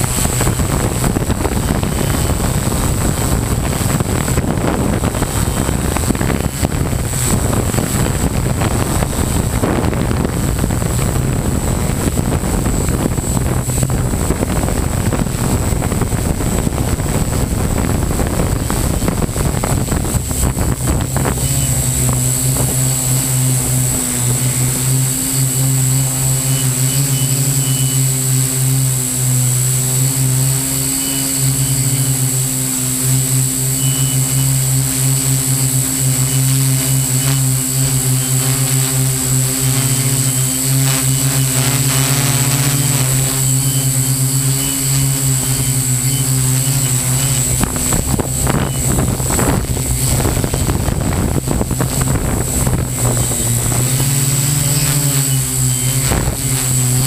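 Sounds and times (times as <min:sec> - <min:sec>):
drone motors droning: 0:00.0 - 0:57.0
rushing wind noise: 0:00.0 - 0:57.0.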